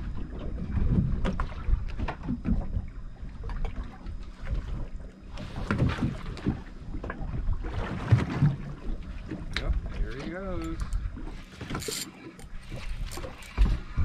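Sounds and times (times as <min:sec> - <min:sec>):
water slapping against hull: 0:00.0 - 0:14.0.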